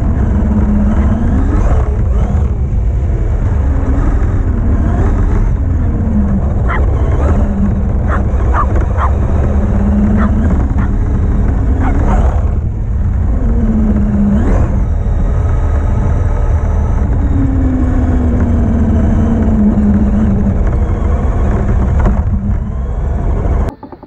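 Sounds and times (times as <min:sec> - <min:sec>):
electric motor whine: 0:00.0 - 0:23.7
low rumble of driving over grass: 0:00.0 - 0:24.0.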